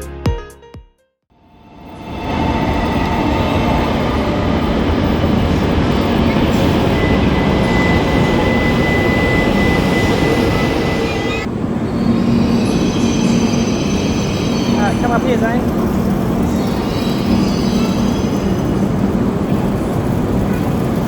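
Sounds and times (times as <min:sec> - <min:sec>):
train rumble: 0:01.4 - 0:21.0.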